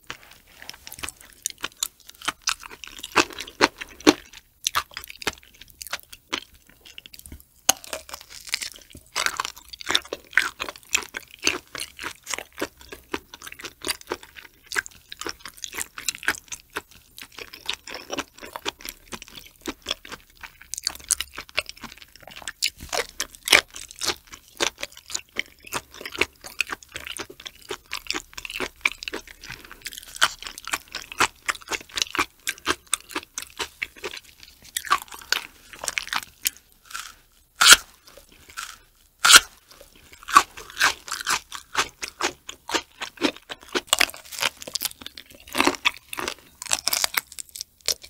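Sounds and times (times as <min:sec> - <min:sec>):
chewing with wet crunches: 0:00.0 - 0:48.0.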